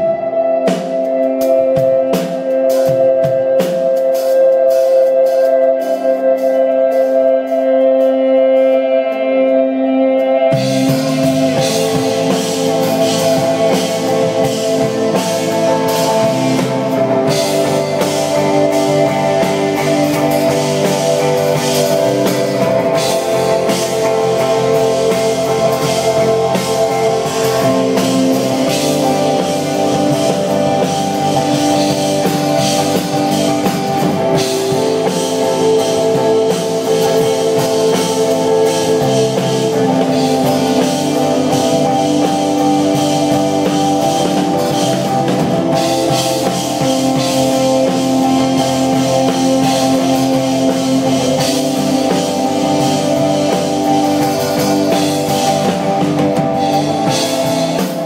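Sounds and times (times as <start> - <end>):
held electric guitar notes: 0.0 - 58.0
rock band playing: 0.0 - 58.0.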